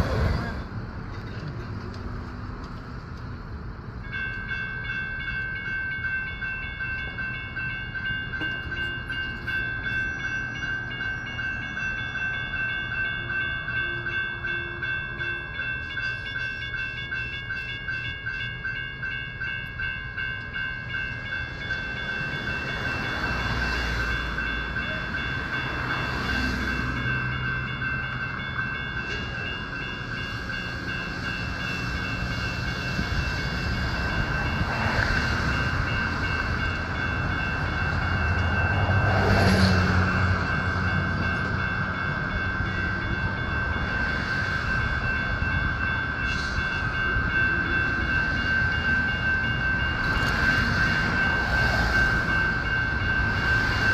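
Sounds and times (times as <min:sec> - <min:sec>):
light rail train rumbling past: 0:00.0 - 0:53.9
railroad crossing bell ringing: 0:00.0 - 0:53.9.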